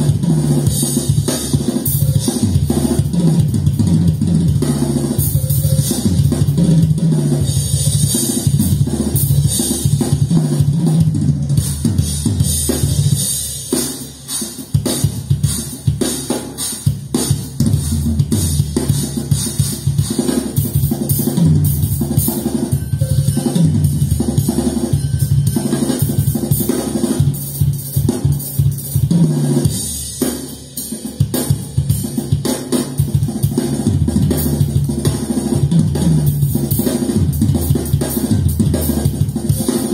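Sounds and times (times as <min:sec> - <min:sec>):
drum kit through loudspeakers: 0:00.0 - 0:39.9.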